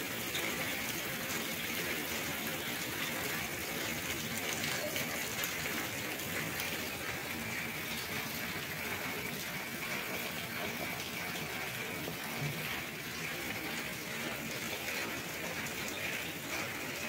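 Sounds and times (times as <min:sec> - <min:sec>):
heavy rain on metal roofs: 0:00.0 - 0:17.0.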